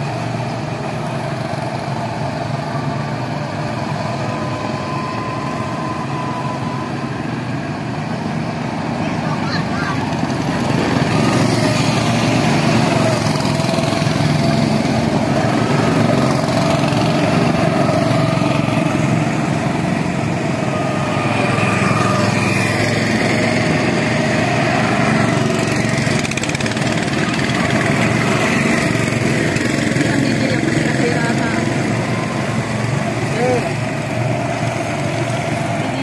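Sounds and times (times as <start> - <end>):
go-kart engines buzzing: 0.0 - 36.0.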